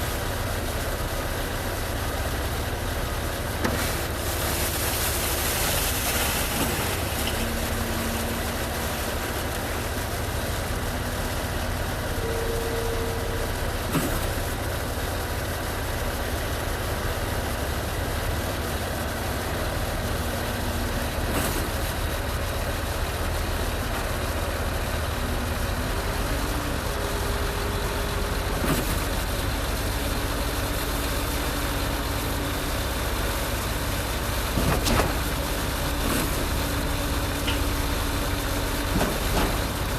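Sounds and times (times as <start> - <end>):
pump truck engine running: 0.0 - 39.9.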